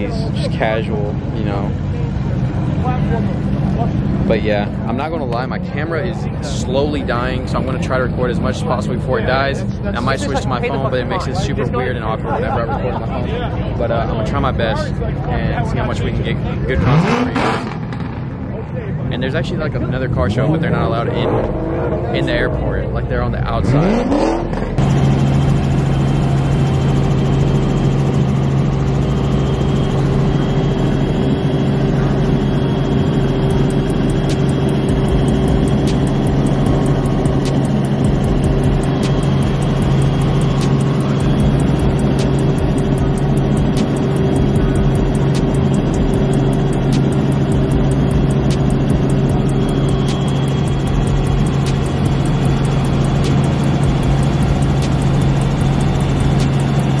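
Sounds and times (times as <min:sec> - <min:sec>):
steady engine drone: 0:00.0 - 0:57.0.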